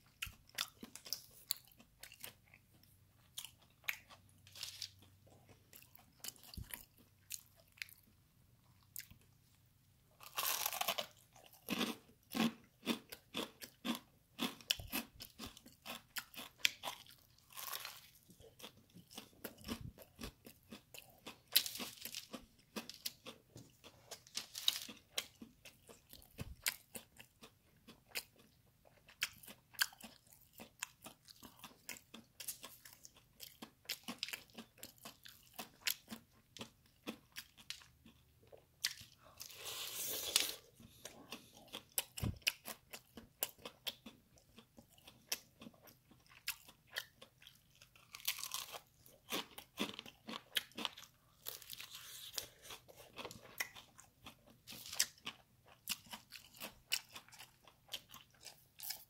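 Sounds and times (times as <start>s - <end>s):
crunchy chewing of fried chicken: 0.0s - 59.0s.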